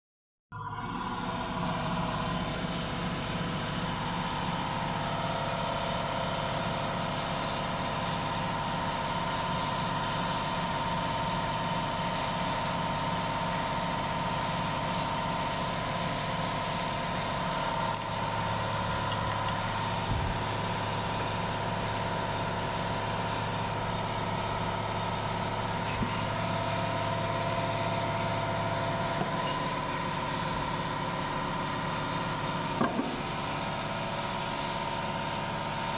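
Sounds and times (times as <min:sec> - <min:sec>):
engine idling: 0:00.6 - 0:35.9.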